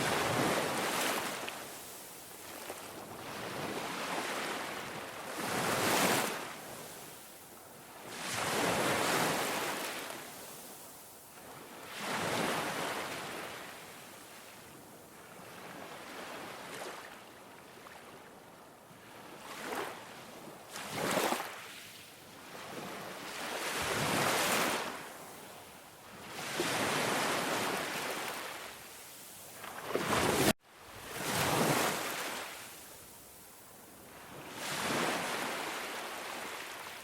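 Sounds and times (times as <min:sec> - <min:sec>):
ocean waves breaking on beach: 0:00.0 - 0:18.2, 0:19.0 - 0:37.0.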